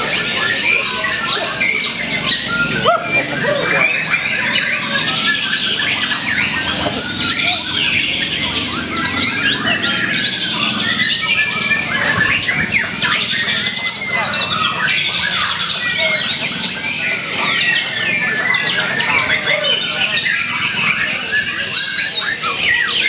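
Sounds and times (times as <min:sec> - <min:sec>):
bird singing: 0:00.0 - 0:23.0.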